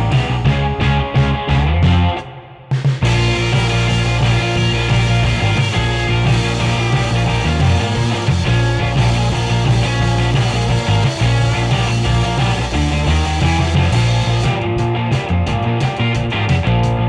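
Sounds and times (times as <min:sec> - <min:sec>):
upbeat rock music: 0:00.0 - 0:17.0.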